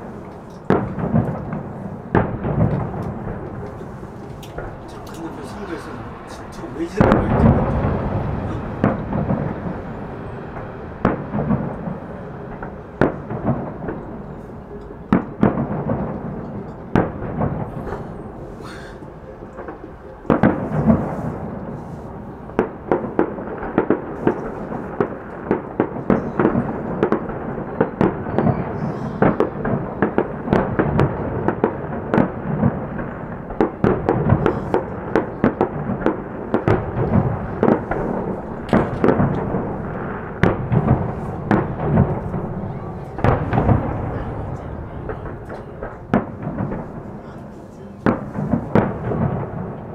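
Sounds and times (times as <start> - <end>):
fireworks bangs: 0.0 - 49.9
rolling rumble: 0.0 - 49.9.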